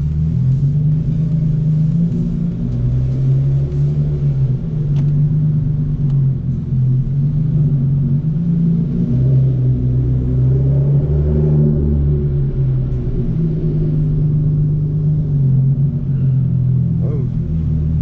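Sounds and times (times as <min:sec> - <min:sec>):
car exhaust rumbling: 0:00.0 - 0:18.0.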